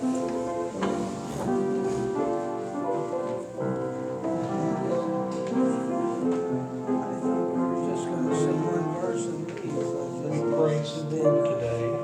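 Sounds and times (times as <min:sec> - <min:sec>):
piano playing slow hymn: 0:00.0 - 0:12.0.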